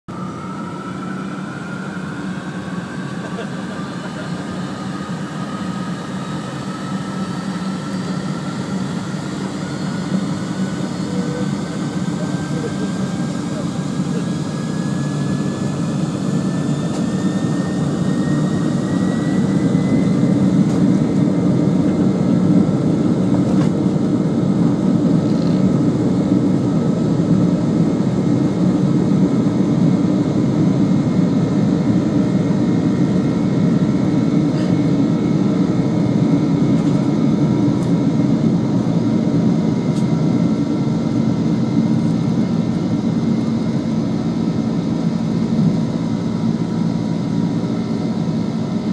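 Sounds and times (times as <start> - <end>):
jet engine whine: 0.1 - 48.9
loud engine rumble: 0.1 - 48.9.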